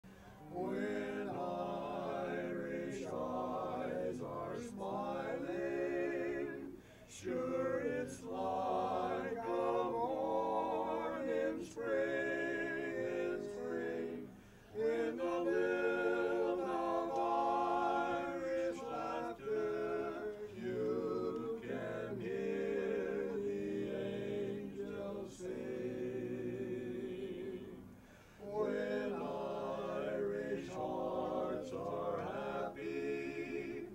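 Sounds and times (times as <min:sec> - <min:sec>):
quartet singing a cappella: 0:00.1 - 0:33.9.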